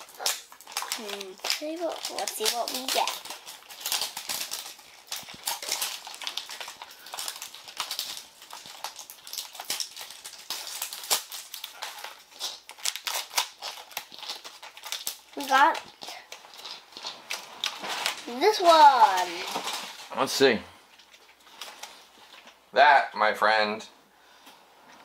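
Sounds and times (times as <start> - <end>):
plastic packaging crinkling: 0.0 - 22.7.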